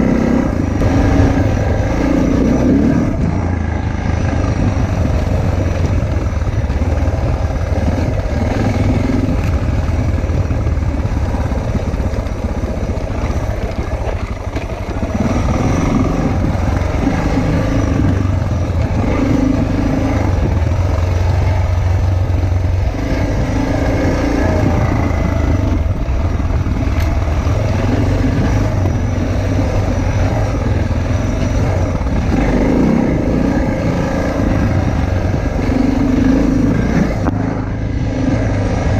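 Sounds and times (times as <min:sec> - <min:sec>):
low rush of wind: 0:00.0 - 0:38.9
motorcycle engine running: 0:00.0 - 0:38.9.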